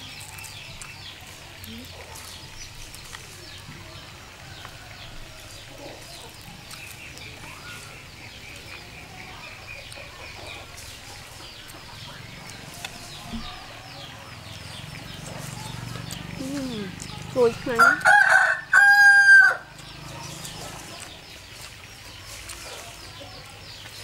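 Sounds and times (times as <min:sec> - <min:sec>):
chickens chirping: 0:00.0 - 0:24.0.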